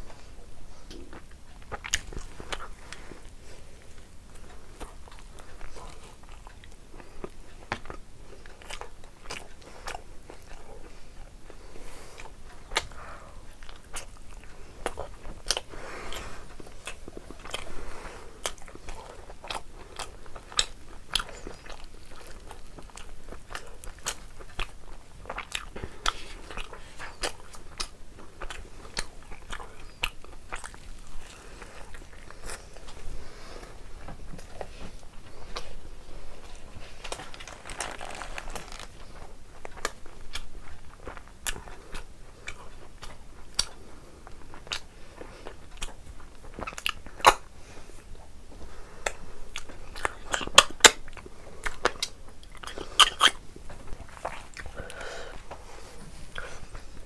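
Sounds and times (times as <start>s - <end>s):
person chewing: 0.0s - 47.5s, 48.6s - 57.0s.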